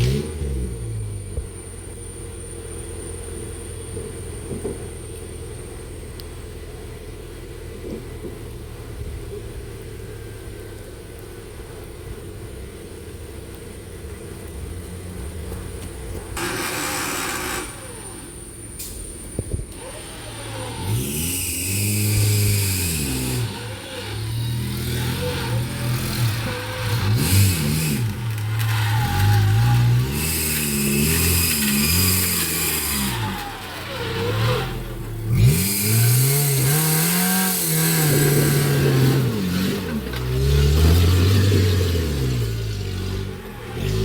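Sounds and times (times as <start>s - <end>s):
vehicle engine revving: 0.0s - 44.0s.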